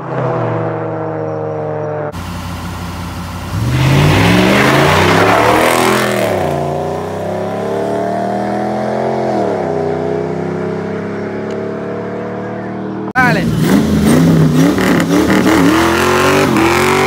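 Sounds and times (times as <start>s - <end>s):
pickup truck engines revving: 0.0s - 17.0s.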